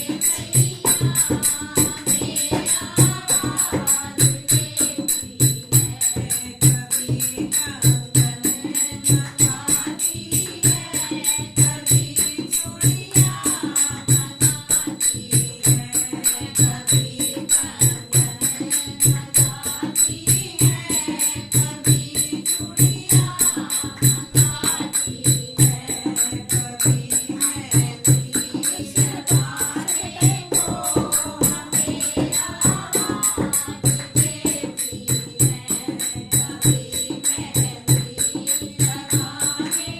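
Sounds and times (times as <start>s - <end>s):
driving percussion beat: 0.0s - 39.9s
voices singing: 0.0s - 39.9s.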